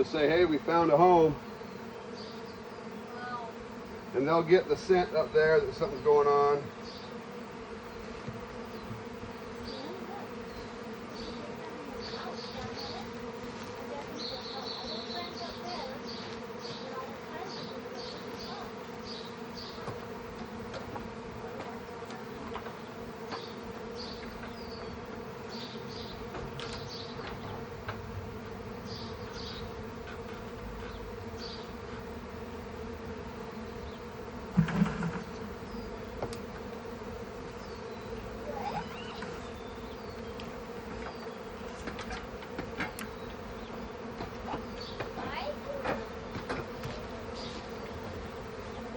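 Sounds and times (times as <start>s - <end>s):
bee swarm buzzing: 0.0s - 48.9s.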